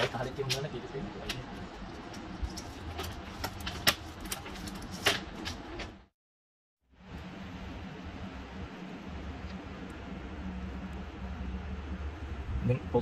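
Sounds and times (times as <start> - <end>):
steady low hum: 0.0 - 6.1, 6.8 - 13.0.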